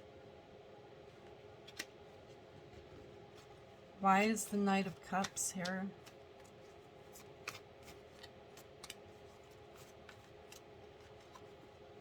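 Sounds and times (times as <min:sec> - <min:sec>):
low room hum: 0:00.0 - 0:12.0
cards being handled: 0:01.1 - 0:12.0.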